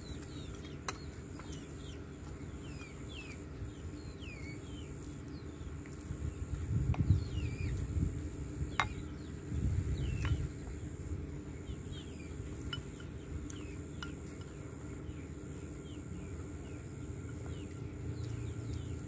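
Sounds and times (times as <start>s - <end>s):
wild birds chirping: 0.0s - 19.0s.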